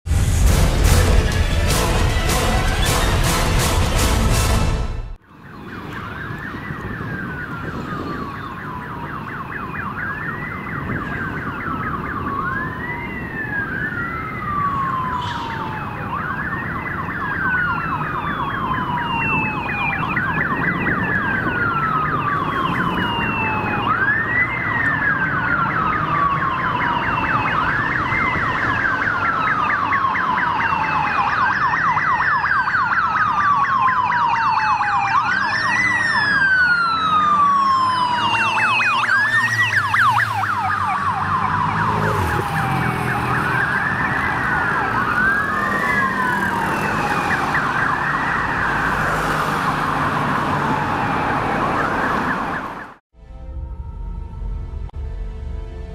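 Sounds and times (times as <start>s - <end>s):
police siren wailing: 0.1s - 53.0s
traffic noise: 0.1s - 55.9s
siren warbling: 5.4s - 55.9s.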